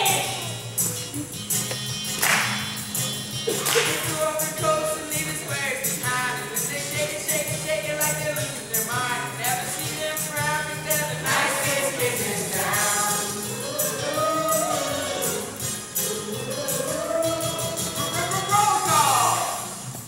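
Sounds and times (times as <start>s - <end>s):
voices singing: 0.0s - 1.0s, 3.5s - 19.7s
band accompaniment: 0.0s - 20.0s
tambourine-like percussion: 0.0s - 20.0s.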